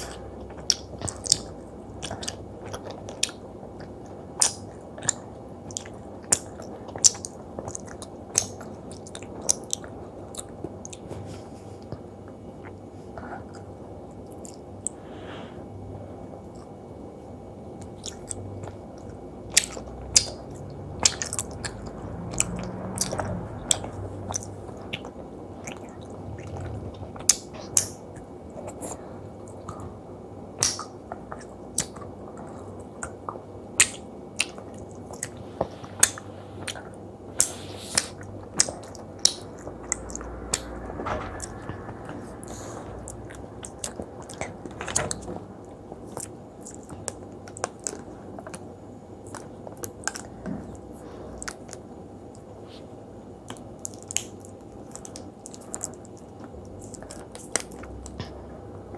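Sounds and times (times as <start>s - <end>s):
chewing jelly candy: 0.0s - 11.1s, 17.8s - 40.7s, 43.6s - 52.5s, 53.4s - 58.4s.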